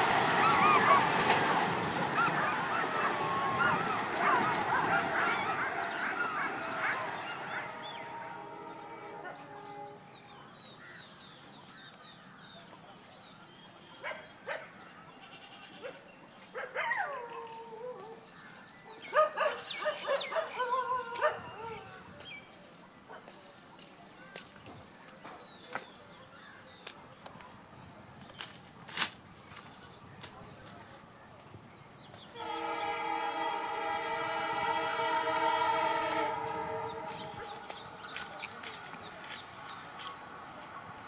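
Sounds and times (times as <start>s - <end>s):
insects chirring: 5.6s - 41.0s.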